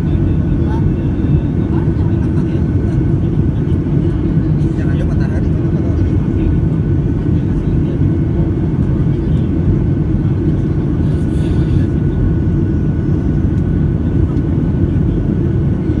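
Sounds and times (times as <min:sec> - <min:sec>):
aircraft engines and rushing air: 0:00.0 - 0:16.0.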